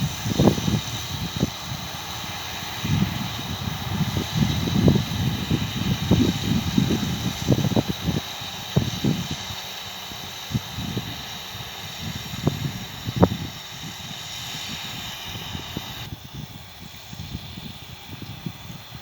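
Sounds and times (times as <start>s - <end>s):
distant tractor and baler running: 0.0s - 19.0s
low buffeting: 0.0s - 19.0s
steady hiss: 0.0s - 19.0s.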